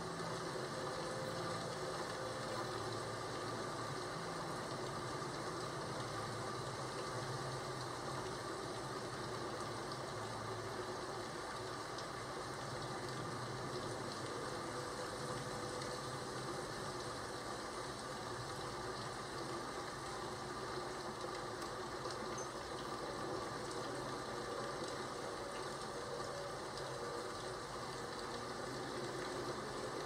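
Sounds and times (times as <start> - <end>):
falling rain hiss: 0.0 - 30.0.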